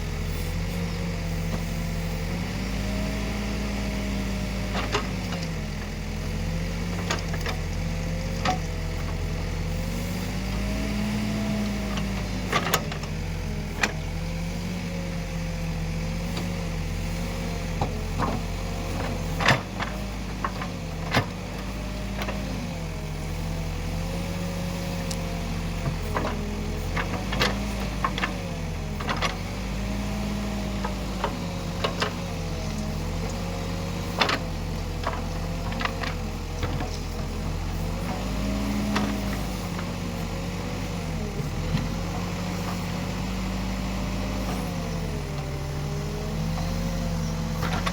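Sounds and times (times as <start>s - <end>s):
backhoe diesel engine working: 0.0s - 47.9s.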